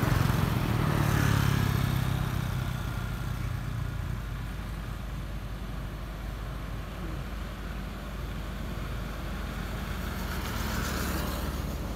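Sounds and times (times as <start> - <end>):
motor vehicle engine rumble: 0.0 - 11.9.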